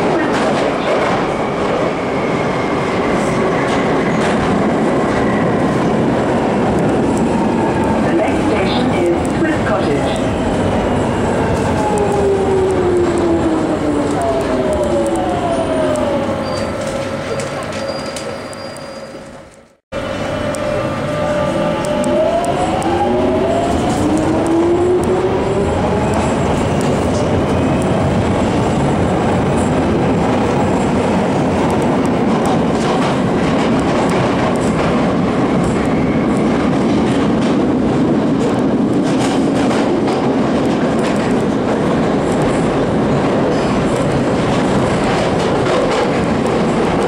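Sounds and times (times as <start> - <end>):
train rumbling and rattling: 0.0 - 47.0.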